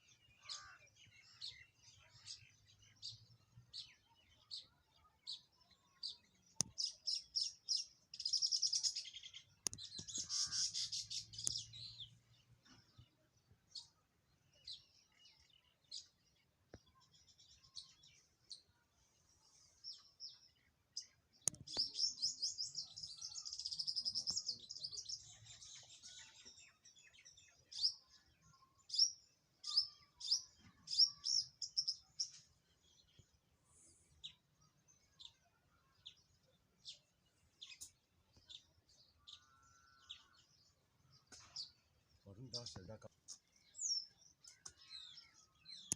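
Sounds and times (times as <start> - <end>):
wild birds chirping: 0.0 - 45.9.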